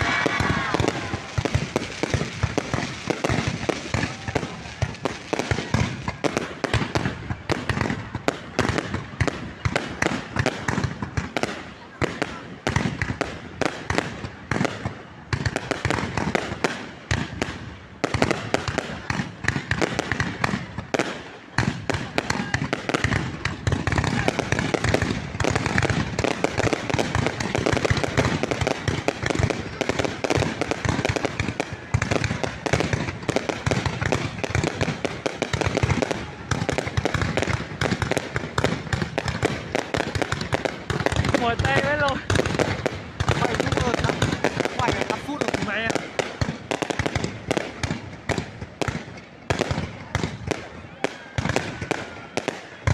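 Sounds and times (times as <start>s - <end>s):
fireworks and firecrackers bangs: 0.0s - 52.9s.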